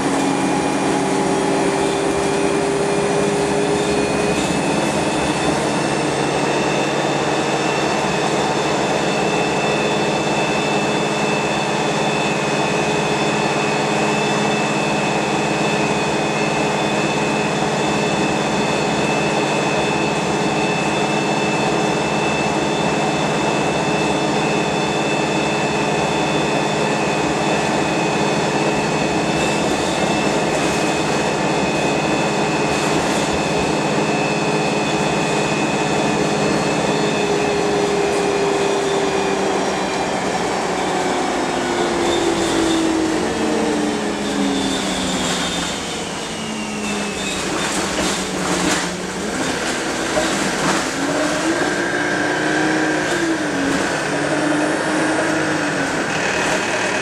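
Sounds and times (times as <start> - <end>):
bus engine and road noise: 0.0 - 57.0
constant high whine: 0.0 - 57.0.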